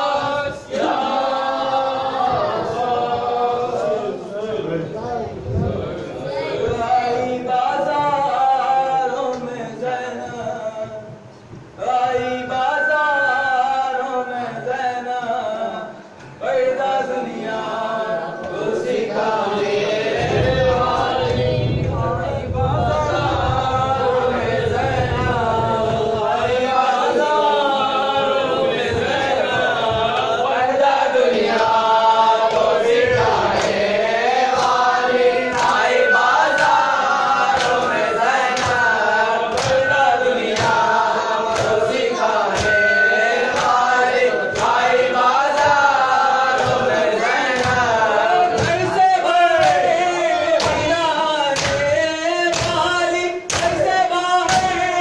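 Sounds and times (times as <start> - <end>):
men chanting a lament: 0.0 - 55.0.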